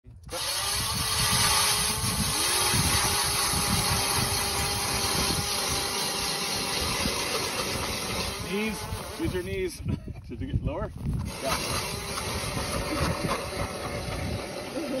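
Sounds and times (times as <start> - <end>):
auger bit grinding ice: 0.1 - 9.8, 11.1 - 15.0
electric motor whine: 0.2 - 9.7, 11.2 - 15.0.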